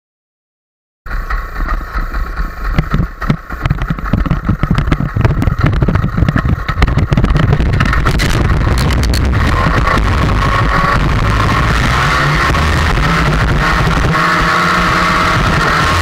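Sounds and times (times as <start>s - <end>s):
gusty low rumble: 1.1s - 16.0s
two-stroke engine running: 1.1s - 16.0s.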